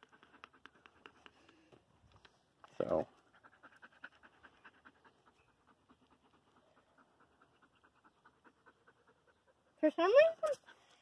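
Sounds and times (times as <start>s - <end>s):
dog panting: 0.0s - 1.6s, 3.1s - 11.0s.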